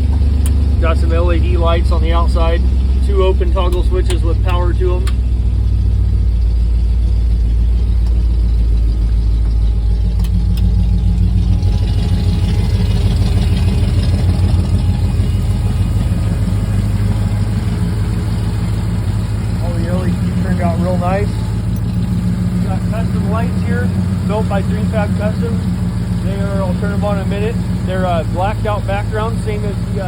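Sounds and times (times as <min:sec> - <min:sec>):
engine idling with low rumble: 0:00.0 - 0:30.0.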